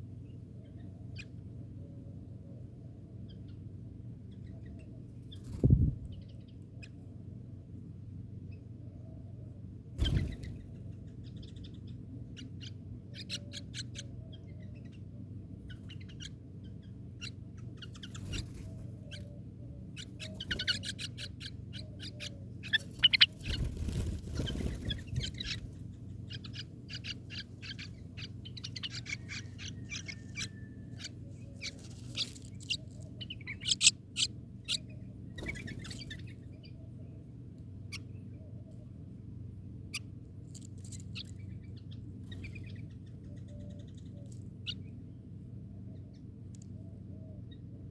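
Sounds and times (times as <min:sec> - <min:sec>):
steady low hum: 0:00.0 - 0:47.9
birds chirping: 0:00.1 - 0:07.2, 0:08.4 - 0:47.8.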